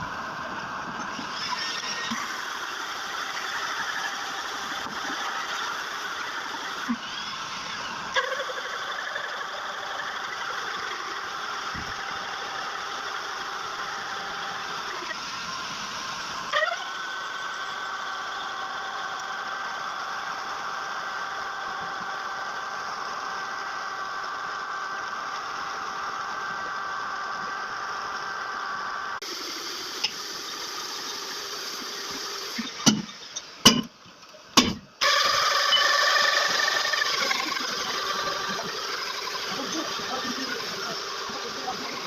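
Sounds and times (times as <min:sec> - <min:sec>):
diesel engine running: 0:02.1 - 0:29.2, 0:34.7 - 0:42.0.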